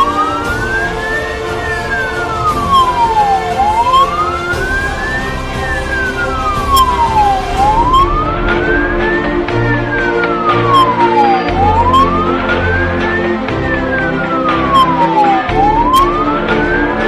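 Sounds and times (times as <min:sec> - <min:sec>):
fire engine wail siren: 0:00.0 - 0:17.0.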